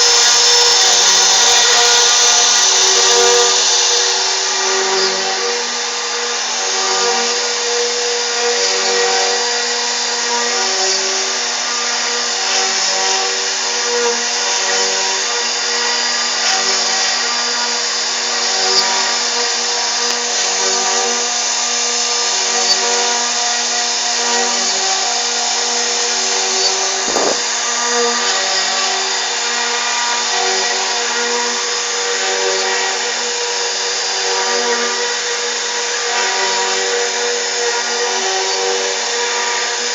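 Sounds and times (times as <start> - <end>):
cnc router spindle cutting: 0.0 - 39.9.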